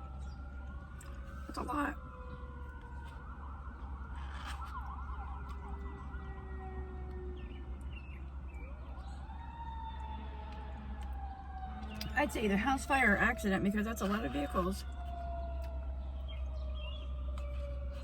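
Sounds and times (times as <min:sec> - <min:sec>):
emergency sirens wailing: 0:00.0 - 0:18.0
siren yelp: 0:00.0 - 0:18.0.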